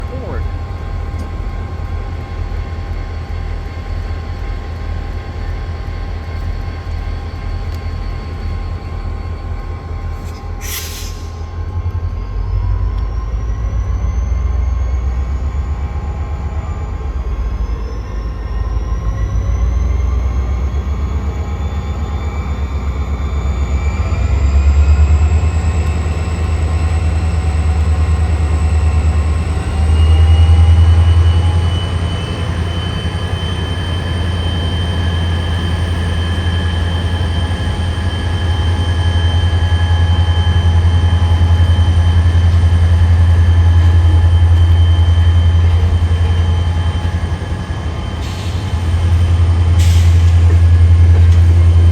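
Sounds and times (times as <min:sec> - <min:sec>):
train rumbling past with whine: 0:00.0 - 0:51.9.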